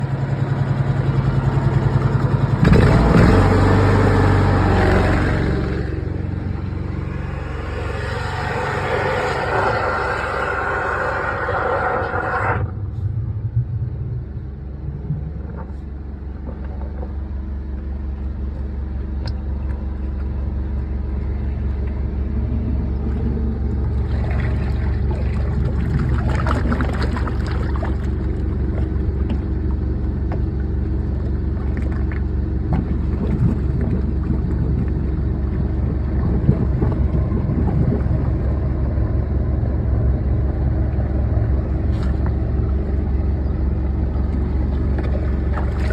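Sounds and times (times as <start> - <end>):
engine rumbling: 0.0 - 45.9.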